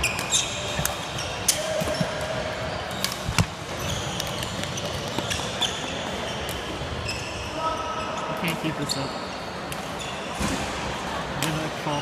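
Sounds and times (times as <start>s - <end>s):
sneaker squeaks on floor: 0.0s - 10.6s
sports hall din: 0.0s - 12.0s.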